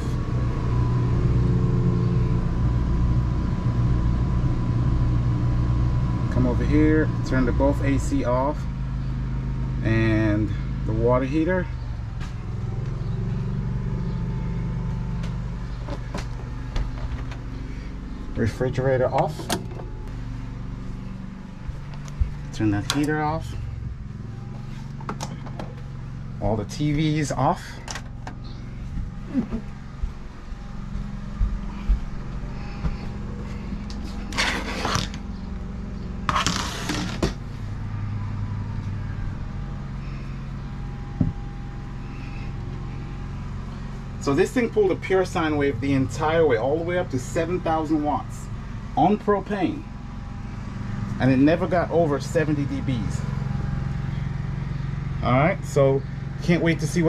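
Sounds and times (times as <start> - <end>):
generator engine running: 0.0 - 57.0
low hum of machinery: 0.0 - 57.0.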